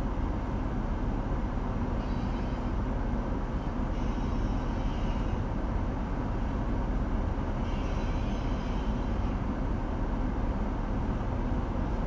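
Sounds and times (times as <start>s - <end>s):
muffled freight train rumble: 0.0s - 12.0s.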